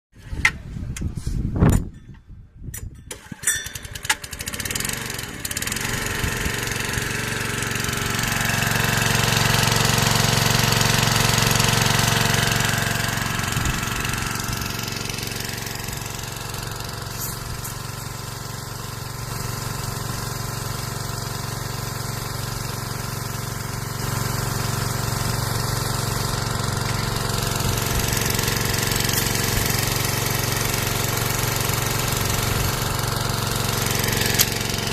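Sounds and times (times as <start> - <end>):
small sprayer engine running: 3.3 - 34.9.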